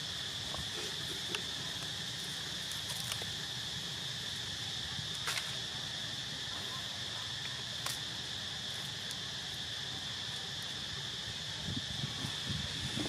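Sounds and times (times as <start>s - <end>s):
insect chorus trilling: 0.0s - 13.0s.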